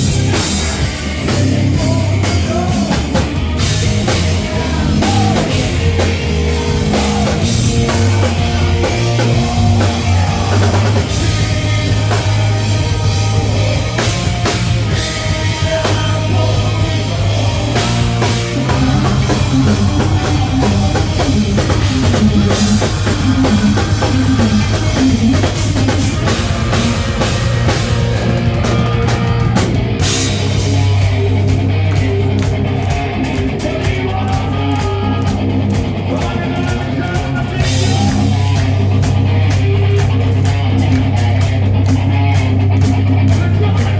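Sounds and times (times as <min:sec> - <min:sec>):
bass guitar: 0:00.0 - 0:43.9
drum kit: 0:00.0 - 0:43.9
electric guitars: 0:00.0 - 0:43.9.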